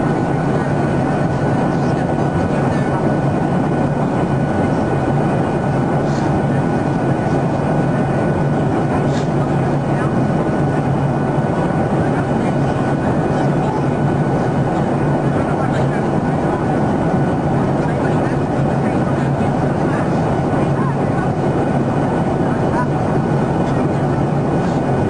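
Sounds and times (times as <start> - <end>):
jet engine and airflow noise: 0.0 - 25.0.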